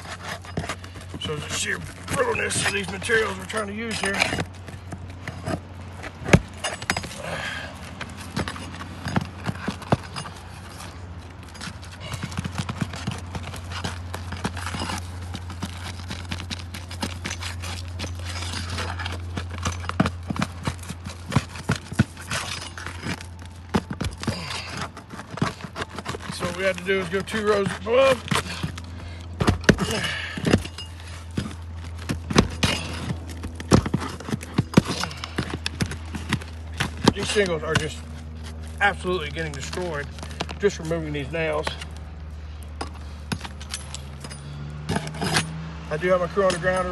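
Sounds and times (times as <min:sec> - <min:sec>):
shingles tearing: 0:00.0 - 0:42.1
shingles scraping and cracking: 0:00.0 - 0:46.9
steady low hum: 0:00.0 - 0:46.9.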